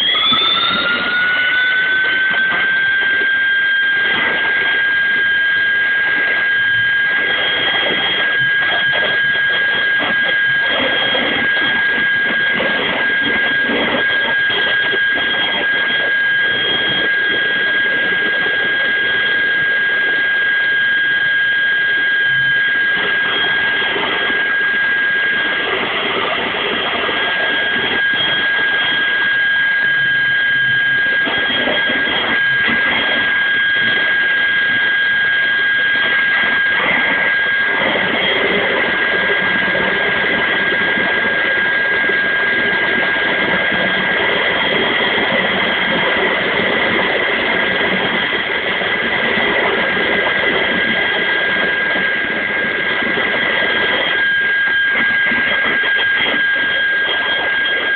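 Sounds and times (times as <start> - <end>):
gas turbine engine running: 0.0 - 57.9
high-pitched turbine whine: 0.0 - 57.9.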